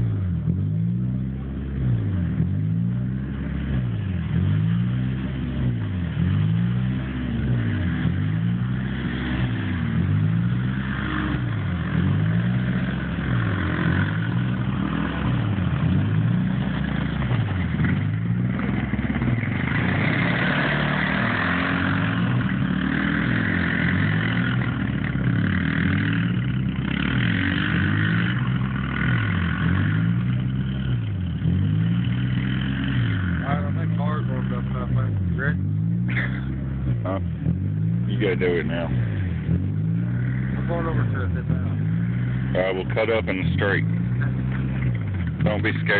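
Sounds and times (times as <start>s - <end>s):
engine revving up and down: 0.0s - 45.9s
second engine: 0.0s - 45.9s.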